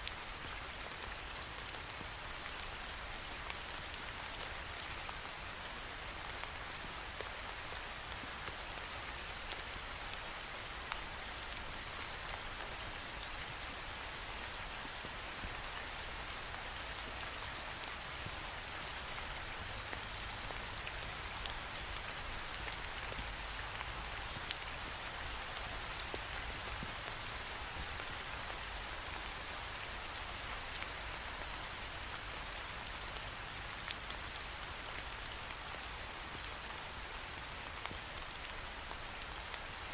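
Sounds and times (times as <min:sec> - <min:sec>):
rain hissing on a window: 0:00.0 - 0:39.9.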